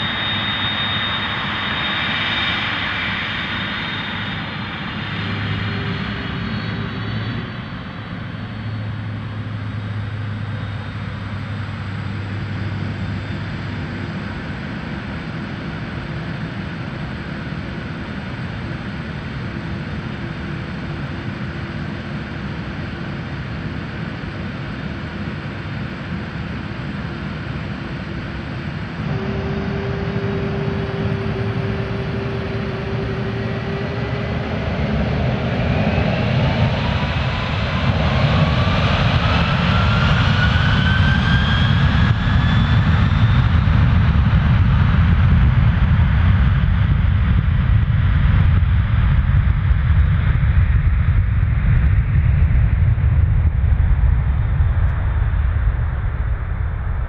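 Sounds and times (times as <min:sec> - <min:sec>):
jet engine whine rising: 0:00.0 - 0:57.0
jet low rumble: 0:00.0 - 0:57.0.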